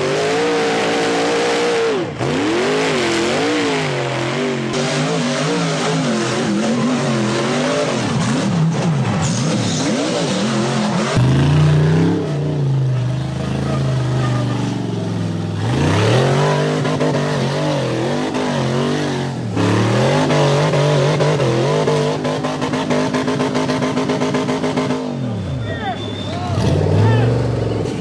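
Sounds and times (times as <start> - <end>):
off-road vehicle engines revving: 0.0 - 28.0.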